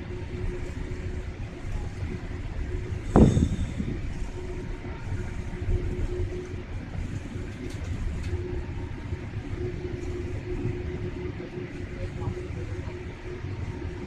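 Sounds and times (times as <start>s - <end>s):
aircraft cabin rumble: 0.0s - 14.0s
faint steady hum: 0.0s - 14.0s.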